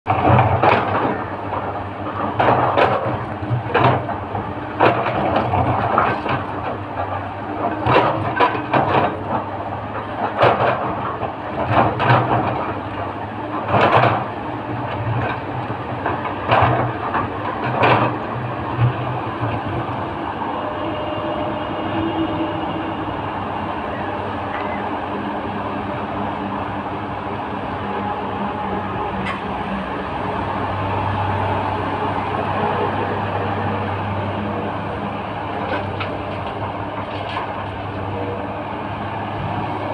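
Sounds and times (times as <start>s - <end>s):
excavator diesel engine droning: 0.1s - 39.9s.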